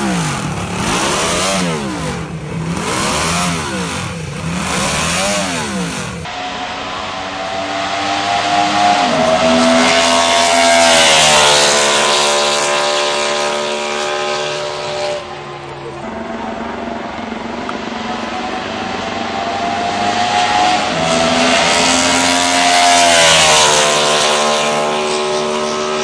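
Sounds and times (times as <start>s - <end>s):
racing engine passing at speed: 0.0s - 26.0s
racing engine revving: 0.0s - 26.0s.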